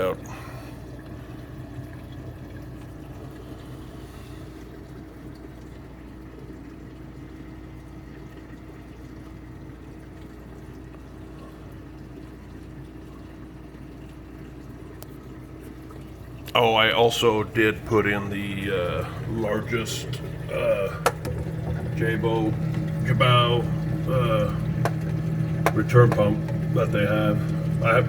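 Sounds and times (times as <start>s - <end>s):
pump hum: 0.0s - 28.0s
water splashing into filter: 0.0s - 28.0s.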